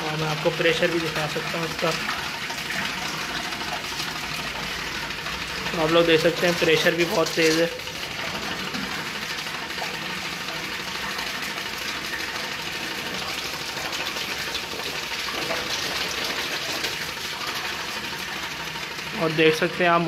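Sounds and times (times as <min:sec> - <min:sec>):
water spraying from hose: 0:00.0 - 0:19.7.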